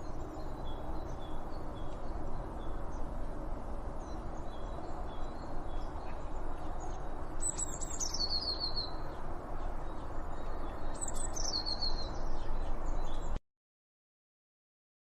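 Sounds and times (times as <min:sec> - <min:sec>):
songbird singing: 0:00.0 - 0:13.4.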